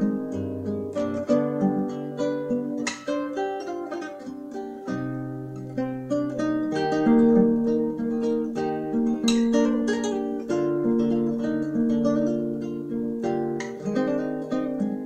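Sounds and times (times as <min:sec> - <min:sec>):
fingerpicked acoustic guitar: 0:00.0 - 0:15.0.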